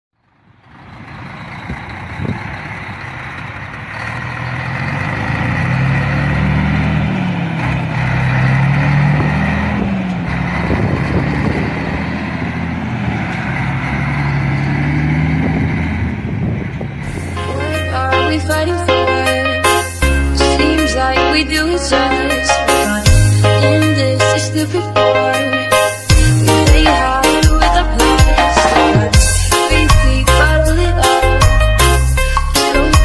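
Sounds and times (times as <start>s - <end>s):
diesel truck engine revving: 0.2s - 33.0s.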